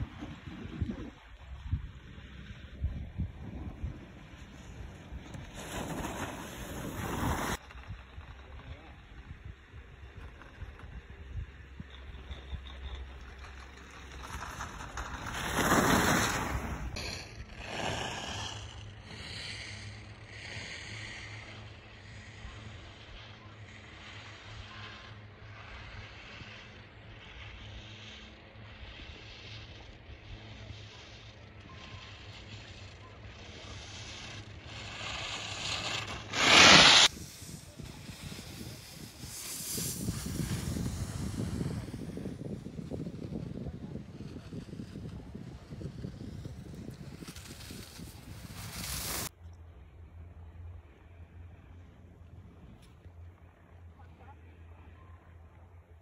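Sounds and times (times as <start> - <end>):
wind rumble on microphone: 0.0 - 28.3, 28.9 - 49.3
skis scraping over snow: 0.0 - 49.3
soft rushing hiss: 0.0 - 49.6.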